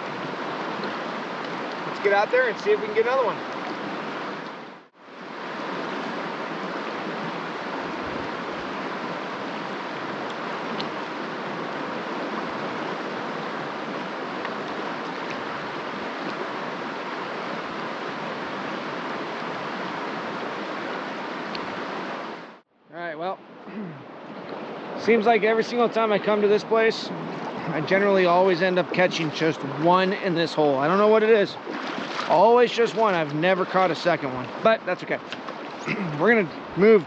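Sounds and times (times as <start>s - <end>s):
river water rushing: 0.0s - 22.6s, 23.4s - 37.0s.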